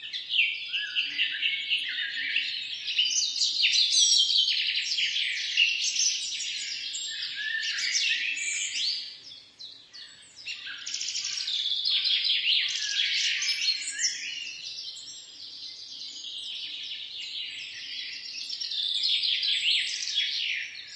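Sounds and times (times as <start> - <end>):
small birds chirping and singing: 0.0 - 20.9.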